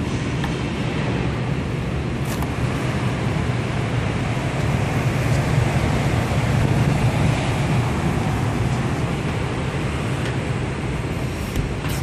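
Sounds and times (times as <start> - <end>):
air handler blower rumble: 0.0 - 12.0.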